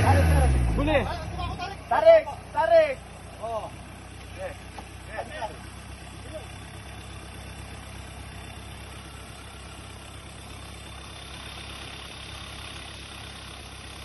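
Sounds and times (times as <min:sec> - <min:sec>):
vehicle engine running at low revs: 0:00.0 - 0:14.0.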